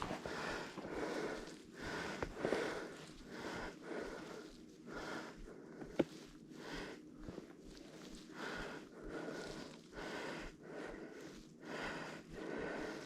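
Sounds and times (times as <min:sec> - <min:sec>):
person breathing heavily: 0:00.0 - 0:13.0.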